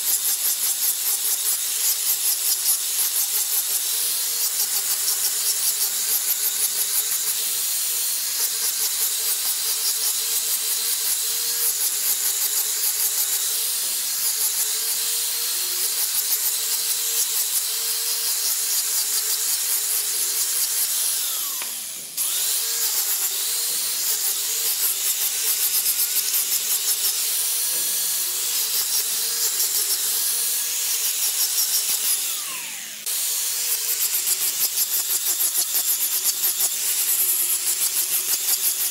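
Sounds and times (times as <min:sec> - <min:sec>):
angle grinder sanding wood: 0:00.0 - 0:38.9.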